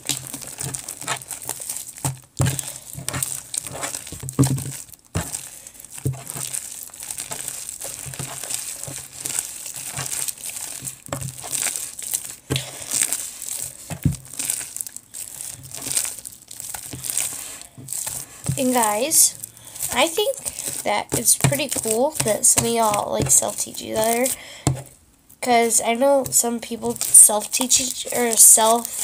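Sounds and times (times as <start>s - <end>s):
slime squished by hand: 0.0s - 29.0s.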